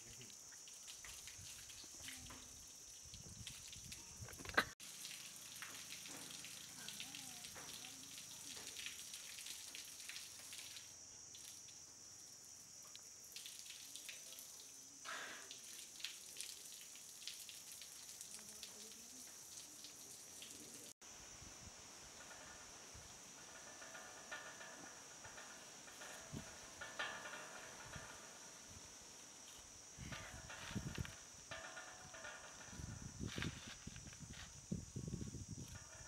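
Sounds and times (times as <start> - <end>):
water dripping on concrete: 0.0 - 11.8, 12.8 - 21.0, 22.2 - 32.9
steady high hiss: 4.8 - 36.0.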